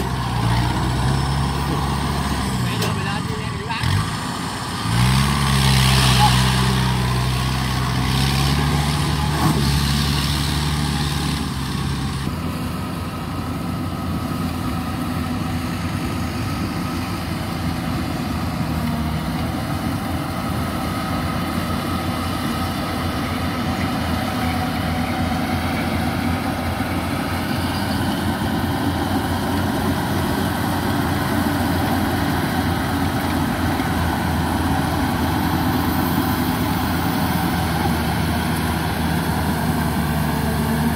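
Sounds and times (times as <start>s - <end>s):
combine harvester diesel engine: 0.0s - 40.9s.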